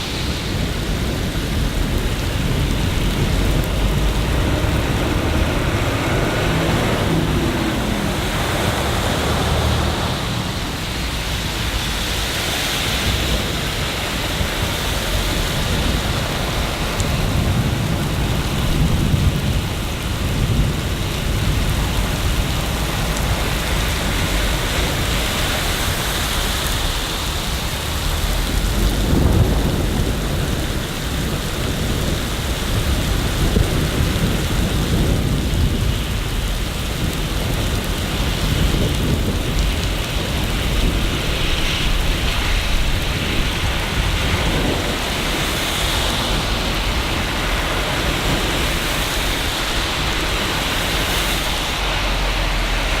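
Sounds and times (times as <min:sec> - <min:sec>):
heavy rain: 0:00.0 - 0:53.0
low thunder rumbles: 0:00.0 - 0:53.0.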